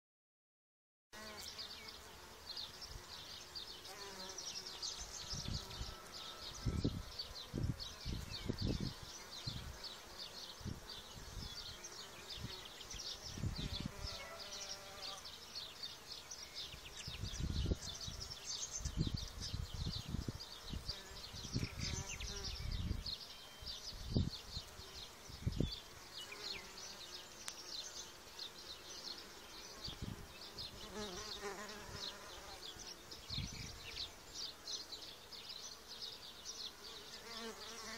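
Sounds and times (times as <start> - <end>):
bees buzzing: 1.2 - 23.0, 23.8 - 37.9.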